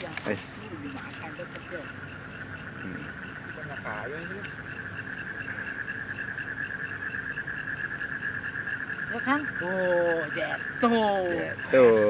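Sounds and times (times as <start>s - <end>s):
crickets and insects trilling: 0.0s - 12.0s.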